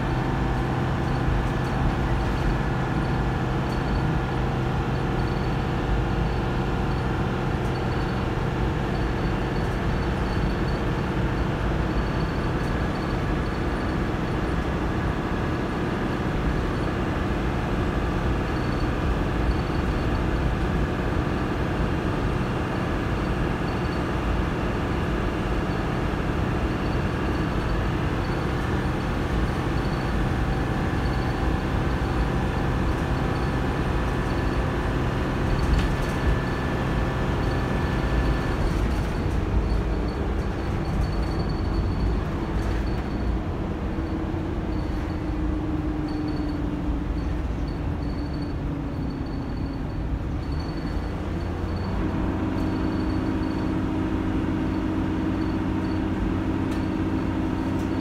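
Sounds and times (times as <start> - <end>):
bus diesel engine droning: 0.0 - 58.0.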